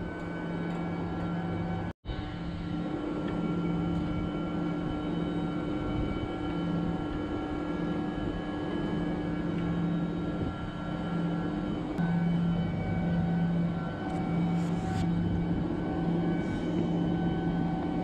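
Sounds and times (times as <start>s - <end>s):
chiller machine hum: 0.0s - 18.0s.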